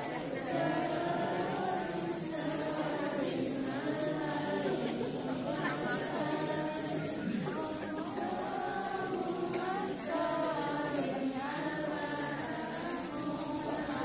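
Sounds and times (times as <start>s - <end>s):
crowd chanting: 0.0s - 14.0s
overlapping talk: 0.0s - 14.0s.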